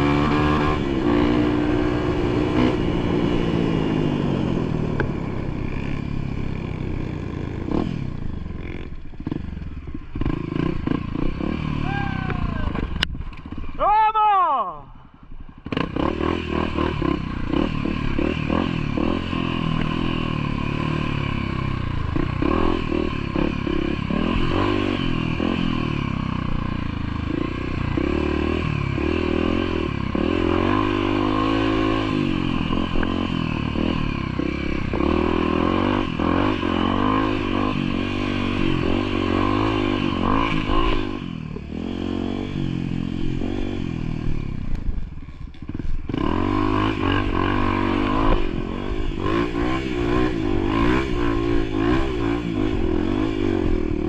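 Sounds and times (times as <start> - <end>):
motorcycle engine revving: 0.0 - 13.8, 15.3 - 54.0.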